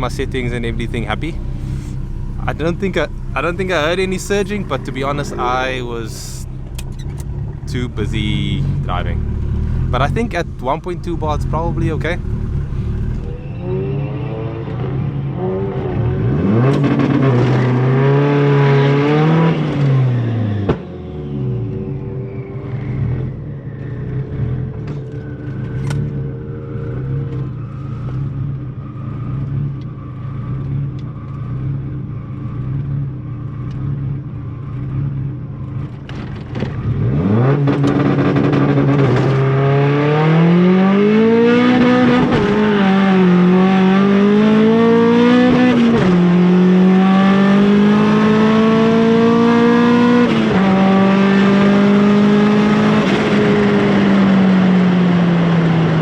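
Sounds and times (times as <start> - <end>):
four-cylinder car engine revving: 0.0 - 56.0.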